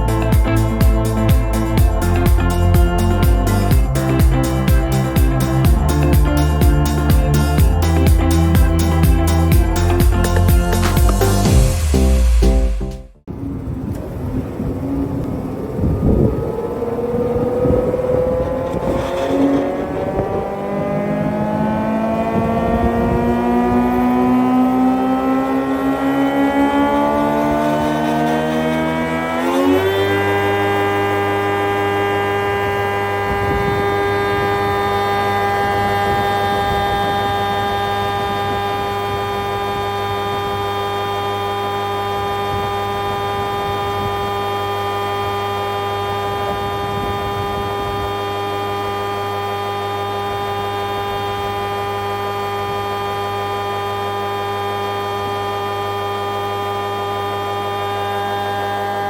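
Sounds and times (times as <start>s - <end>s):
thicknesser motor humming: 0.0s - 59.0s.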